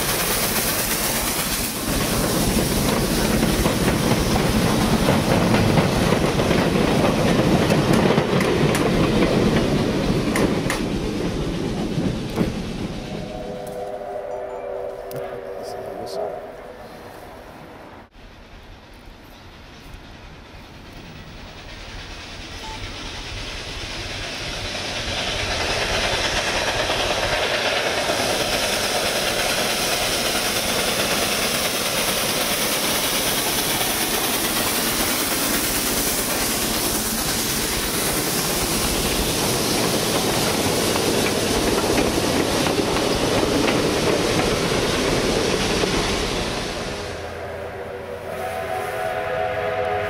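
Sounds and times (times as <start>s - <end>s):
steam locomotive running past: 0.0s - 50.0s.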